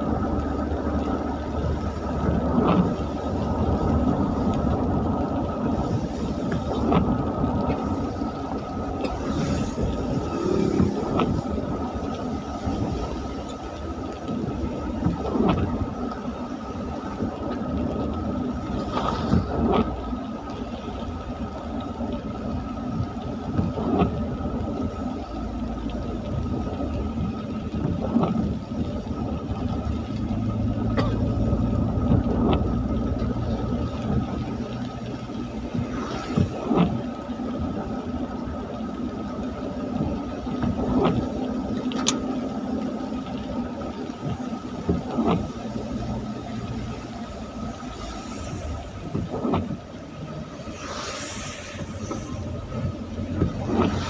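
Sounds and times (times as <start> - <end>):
engine rumble: 0.0 - 54.0
tyre hiss on wet road: 0.0 - 54.0.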